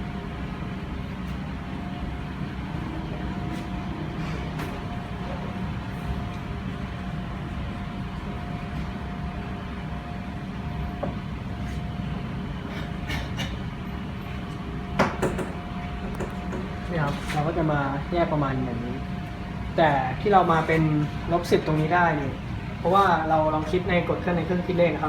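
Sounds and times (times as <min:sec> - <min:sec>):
background hum and hiss: 0:00.0 - 0:25.0
faint constant whine: 0:00.0 - 0:25.0.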